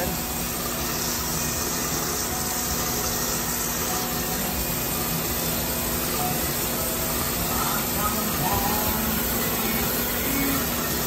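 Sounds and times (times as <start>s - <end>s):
grinding wheel hissing: 0.0s - 11.0s
higher hiss: 0.0s - 11.0s
low machine hum: 0.0s - 11.0s.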